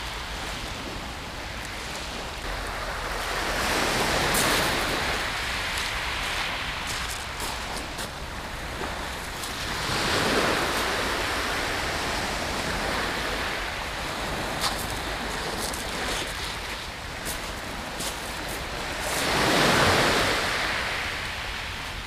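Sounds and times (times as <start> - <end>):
waves breaking on shingle beach: 0.0 - 22.0.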